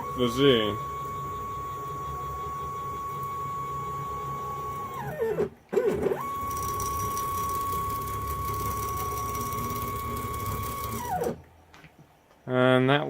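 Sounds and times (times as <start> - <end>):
stepper motor whine: 0.0 - 11.4.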